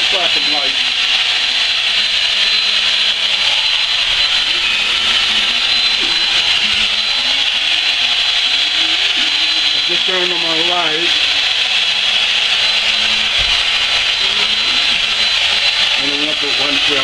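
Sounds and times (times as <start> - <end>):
electric drill running: 0.0 - 17.0.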